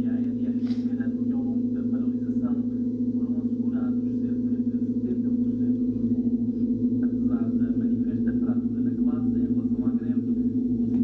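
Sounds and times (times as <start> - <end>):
low droning tone: 0.0 - 11.0
muffled voices: 0.0 - 11.0.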